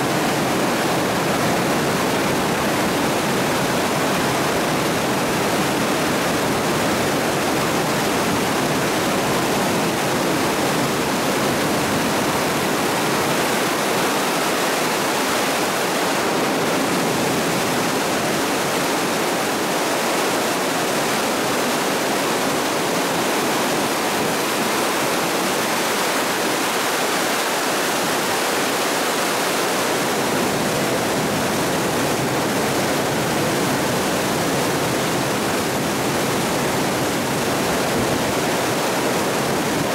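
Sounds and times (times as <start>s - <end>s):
floodwater rushing and churning: 0.0s - 39.9s.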